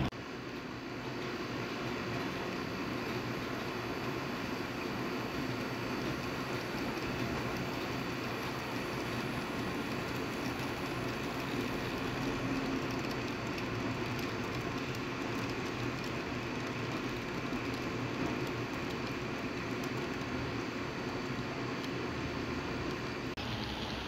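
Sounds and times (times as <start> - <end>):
model train running on track: 1.2 - 22.0.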